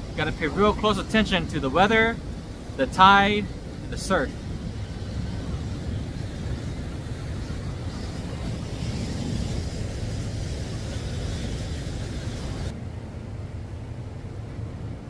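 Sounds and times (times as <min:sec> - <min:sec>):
low continuous rumble: 0:00.0 - 0:15.0.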